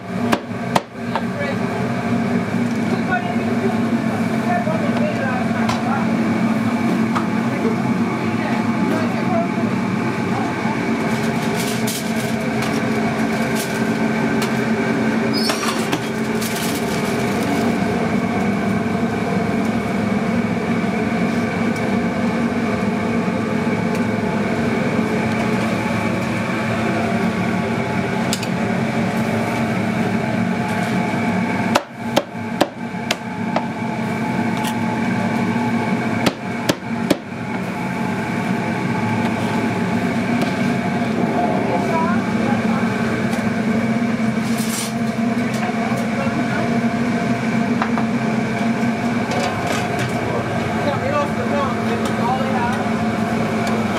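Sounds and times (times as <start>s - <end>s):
steady background hum: 0.0s - 53.9s.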